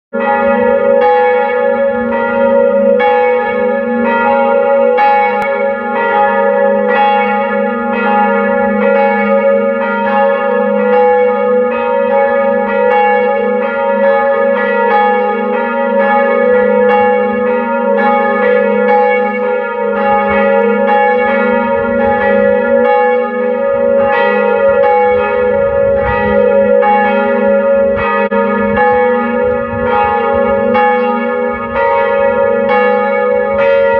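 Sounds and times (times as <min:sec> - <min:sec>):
church bells ringing: 0:00.2 - 0:33.9.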